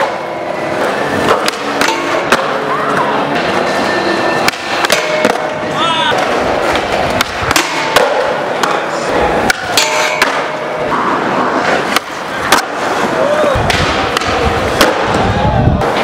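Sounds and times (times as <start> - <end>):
skateboard clacks and slaps: 0.0 - 3.6, 4.4 - 16.0
skateboard grinding metal rail: 0.0 - 16.0
skateboard wheels rolling on concrete: 0.0 - 16.0.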